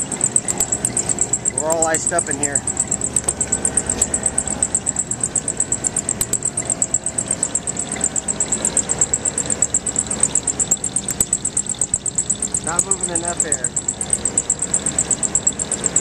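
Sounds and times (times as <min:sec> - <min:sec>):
air handling unit running: 0:00.0 - 0:16.0
blower belt chirping: 0:00.0 - 0:16.0.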